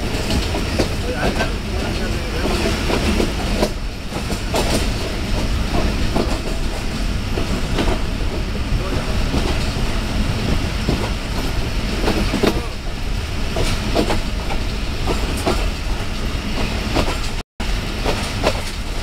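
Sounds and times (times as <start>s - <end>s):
train rumbling at speed: 0.0s - 19.0s
wheels clacking over rail joints: 0.0s - 19.0s.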